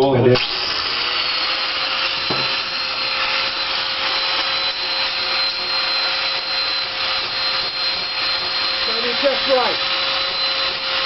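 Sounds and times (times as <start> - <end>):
power tool motor running: 0.4 - 11.0.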